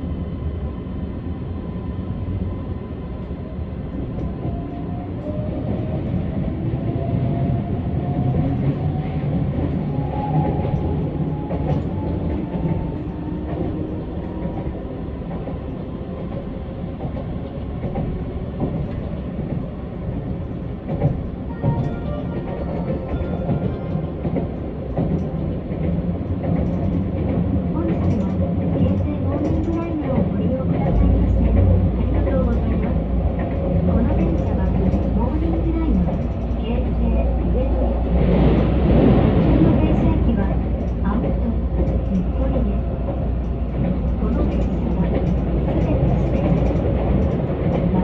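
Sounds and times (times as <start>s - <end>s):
electric train rumble and motor whine: 0.0s - 48.0s.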